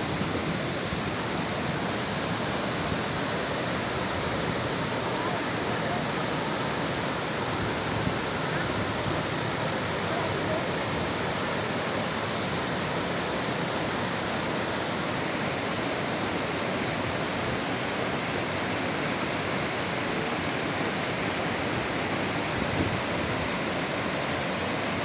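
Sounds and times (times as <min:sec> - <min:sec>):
stream water running: 0:00.0 - 0:25.0
waterfall rushing: 0:00.0 - 0:25.0.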